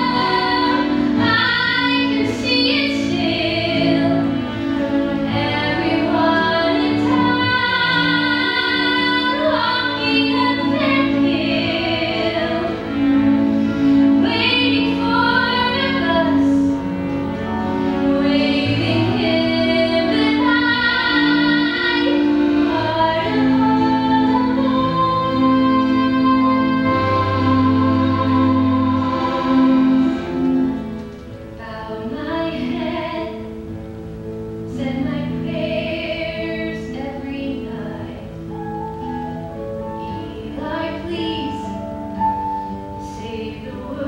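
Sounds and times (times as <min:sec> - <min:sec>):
woman singing a ballad: 0:00.0 - 0:12.9, 0:14.2 - 0:16.8, 0:18.0 - 0:29.7, 0:31.6 - 0:33.6, 0:34.7 - 0:38.4, 0:40.0 - 0:41.8, 0:43.0 - 0:44.0
instrumental accompaniment: 0:00.0 - 0:44.0.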